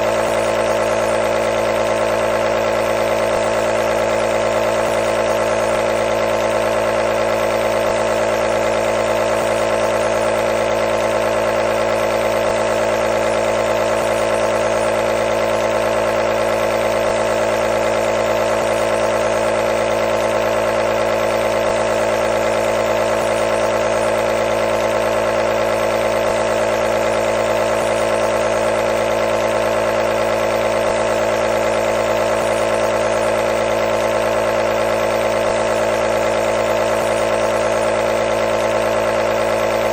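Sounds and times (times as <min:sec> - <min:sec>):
compressor humming: 0:00.0 - 0:39.9.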